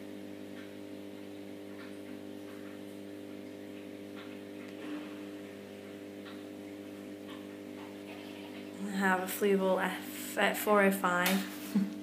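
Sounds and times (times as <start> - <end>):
aquarium filter pump hum: 0.0 - 12.0.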